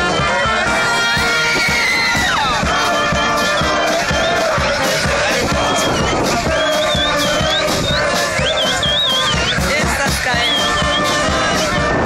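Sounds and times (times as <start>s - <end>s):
brass band playing festive music: 0.0s - 12.0s
crowd voices: 0.0s - 12.0s.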